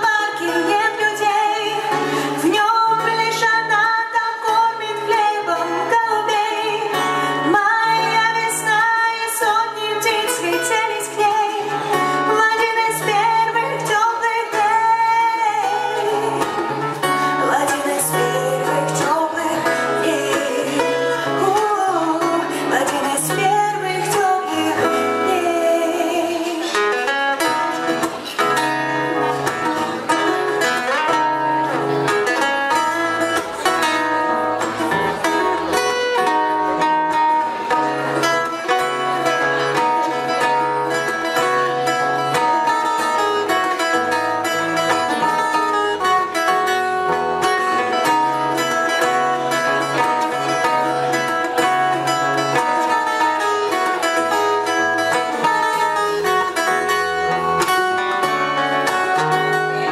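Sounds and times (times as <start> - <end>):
guitar playing: 0.0 - 59.9.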